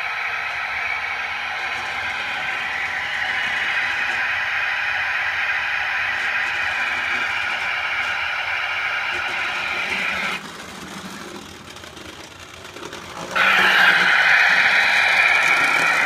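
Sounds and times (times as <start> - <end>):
model train motor and gears whirring: 0.0 - 16.0.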